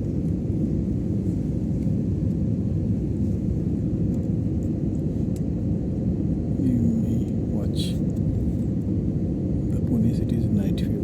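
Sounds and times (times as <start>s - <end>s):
airliner engines and airflow rumble: 0.0s - 11.0s.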